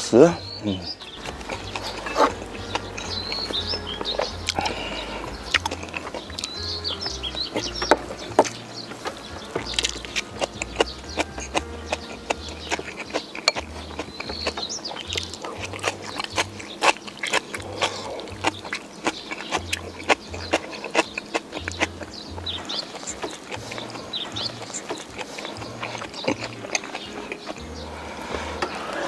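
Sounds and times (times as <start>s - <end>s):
soft background music: 0.0s - 29.0s
chewing and lip-smacking: 0.5s - 29.0s.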